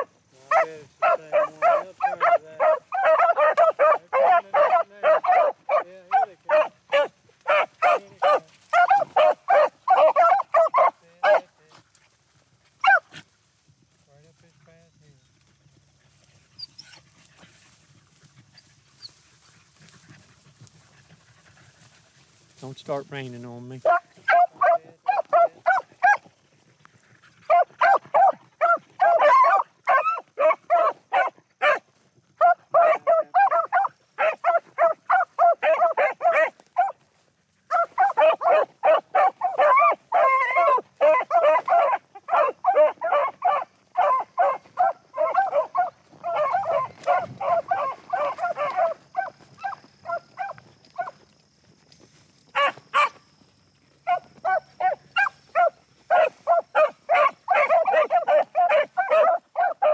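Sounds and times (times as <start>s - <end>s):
hounds baying: 0.0s - 13.4s, 15.2s - 59.9s.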